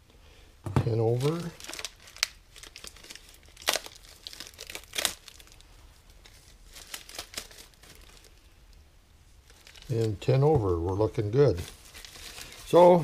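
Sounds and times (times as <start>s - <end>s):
plastic wrapping crinkling: 0.8s - 8.8s, 9.4s - 13.0s.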